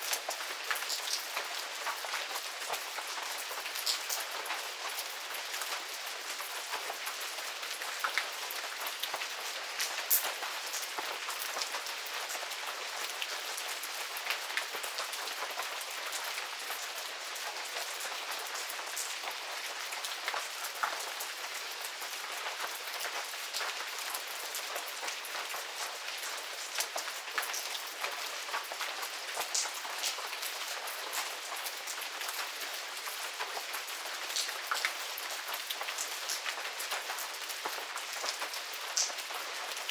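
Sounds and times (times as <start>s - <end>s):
raindrops pattering on surfaces: 0.0s - 39.9s.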